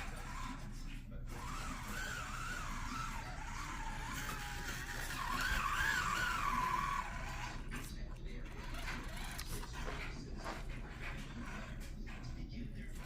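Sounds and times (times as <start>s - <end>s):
rc truck motor whining: 0.0s - 12.0s.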